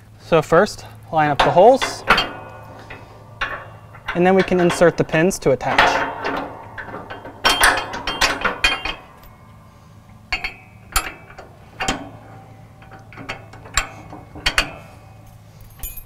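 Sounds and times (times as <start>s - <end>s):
metal pins clinking and clicking: 0.6s - 16.0s.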